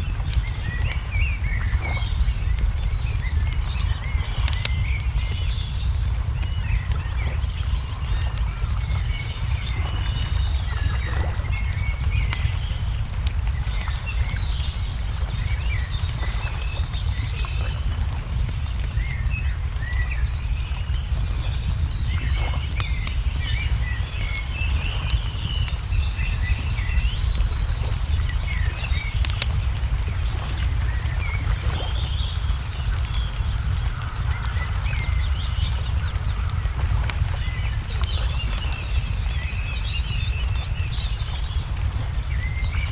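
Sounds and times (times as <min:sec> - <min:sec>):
low rumble: 0:00.0 - 0:42.9
small birds chirping: 0:00.0 - 0:42.9
wood fire crackling: 0:00.0 - 0:42.9.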